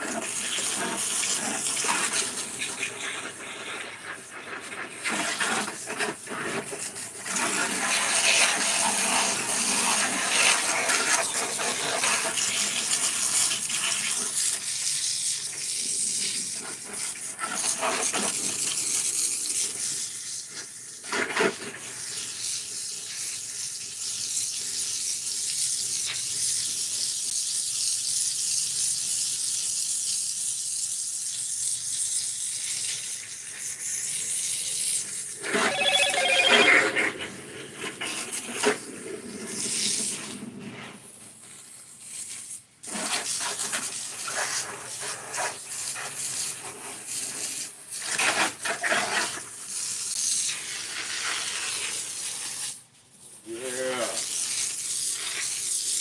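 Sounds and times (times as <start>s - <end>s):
hose water spraying and splashing: 0.0s - 35.0s, 41.0s - 56.0s.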